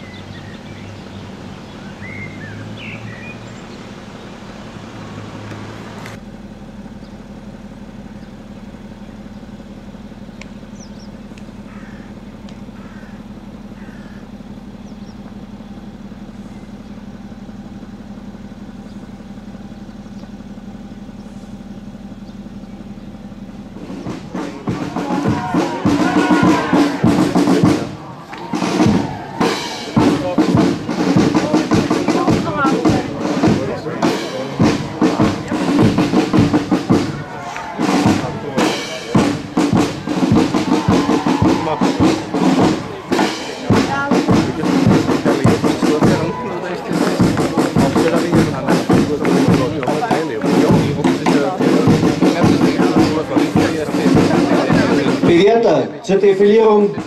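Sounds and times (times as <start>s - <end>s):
steady low hum: 3.8s - 55.3s
marching drums playing a march beat: 6.9s - 57.0s.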